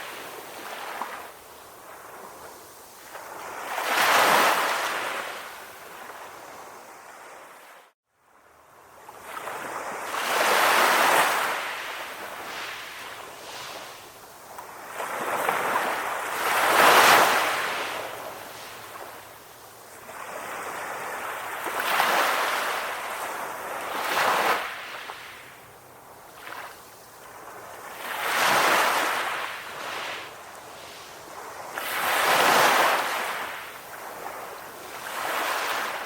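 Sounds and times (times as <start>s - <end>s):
ocean waves washing onto shore: 0.0s - 36.0s.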